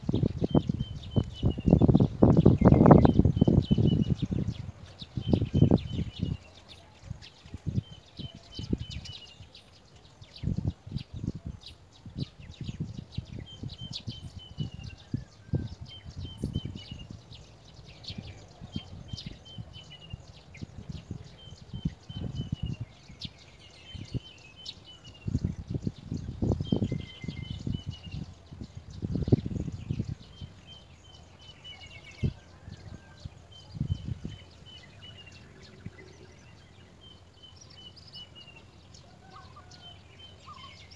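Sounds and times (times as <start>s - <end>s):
wind gusts on microphone: 0.0s - 40.9s.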